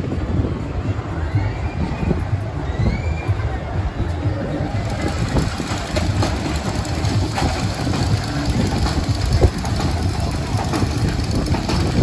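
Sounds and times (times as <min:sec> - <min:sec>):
roller coaster train rumbling on track: 0:00.0 - 0:12.0.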